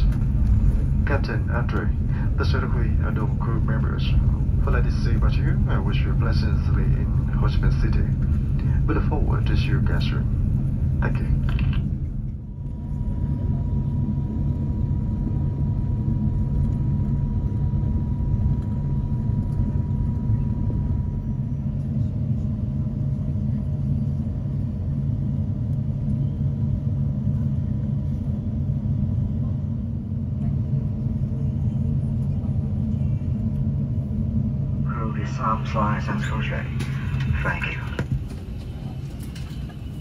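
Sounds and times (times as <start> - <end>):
aircraft engines idling: 0.0 - 40.0
cabin air: 0.0 - 40.0.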